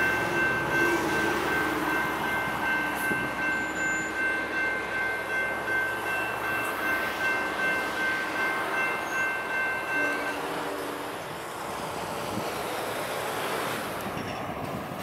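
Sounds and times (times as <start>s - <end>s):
railroad crossing bells ringing: 0.0s - 15.0s.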